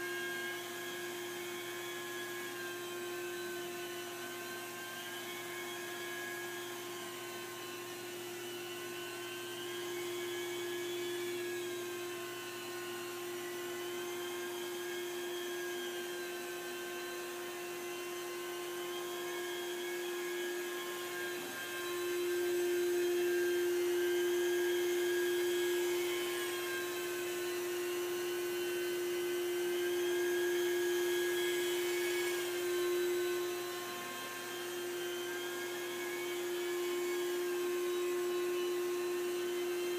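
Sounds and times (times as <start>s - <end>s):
carpet cleaning machine whining: 0.0s - 39.9s.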